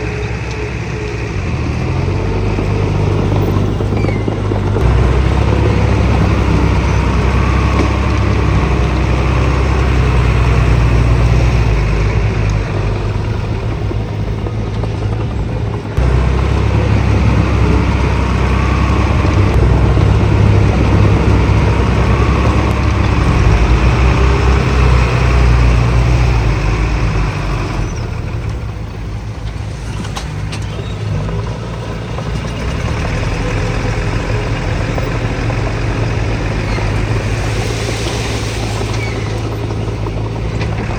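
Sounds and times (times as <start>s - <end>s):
heavy diesel machinery rumble: 0.0s - 40.9s.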